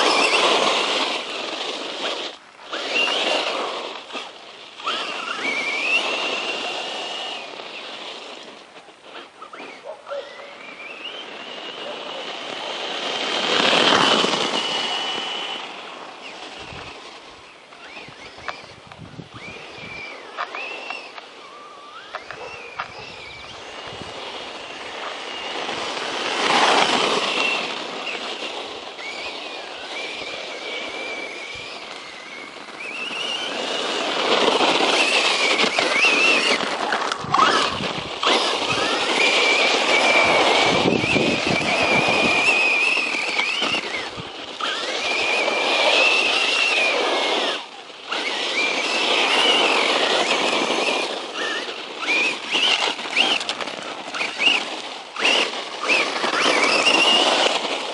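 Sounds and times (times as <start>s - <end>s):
electric motor whining: 0.0s - 57.9s
wheels rushing over ground: 0.0s - 57.9s.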